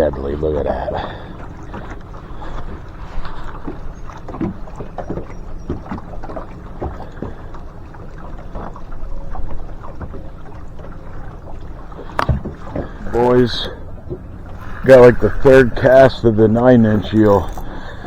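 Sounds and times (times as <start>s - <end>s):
low rumble of moving water: 0.0s - 18.0s
river water sloshing and splashing: 0.0s - 18.0s
wind: 0.0s - 18.0s.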